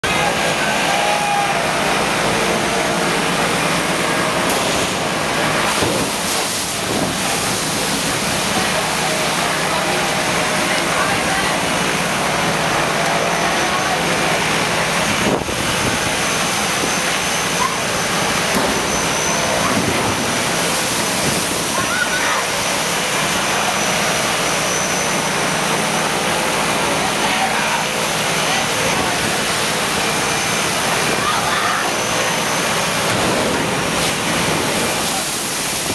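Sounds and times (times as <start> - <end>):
engine-like drone: 0.0 - 35.9
wind-driven water spray: 0.1 - 35.9.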